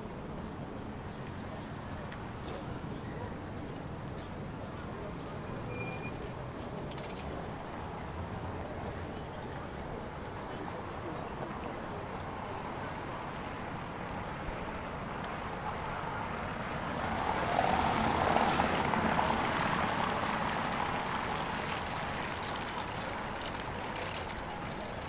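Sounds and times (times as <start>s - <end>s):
city traffic: 0.0s - 25.0s.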